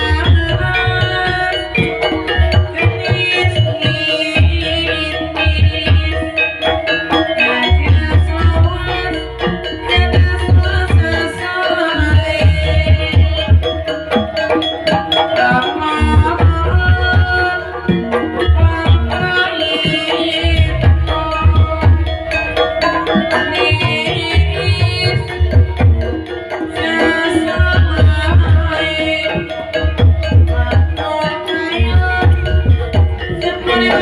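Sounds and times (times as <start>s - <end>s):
hand-drum beats: 0.0s - 34.0s
ringing tuned percussion: 0.0s - 34.0s.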